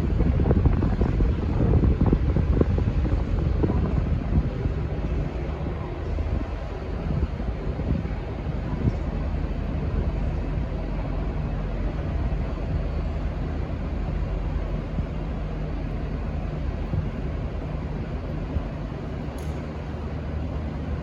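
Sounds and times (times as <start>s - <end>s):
diesel locomotive engine drone: 0.0s - 21.0s.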